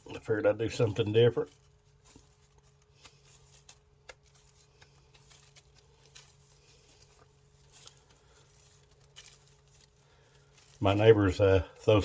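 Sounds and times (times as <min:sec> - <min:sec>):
low steady hum: 0:00.0 - 0:12.0
faint clicks and scrapes: 0:01.4 - 0:12.0.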